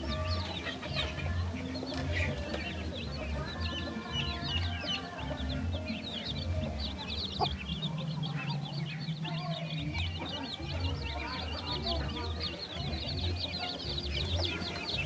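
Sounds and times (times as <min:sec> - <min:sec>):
background music: 0:00.0 - 0:15.0
chicks peeping: 0:00.0 - 0:15.0.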